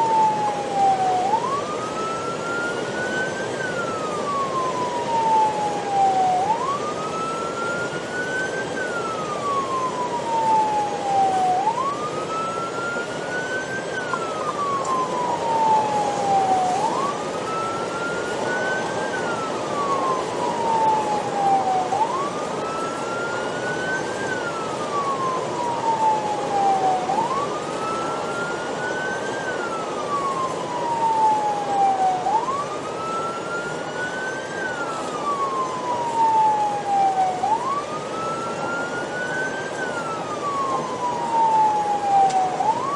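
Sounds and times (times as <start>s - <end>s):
police siren wailing: 0.0s - 42.9s
road and engine noise: 0.0s - 42.9s.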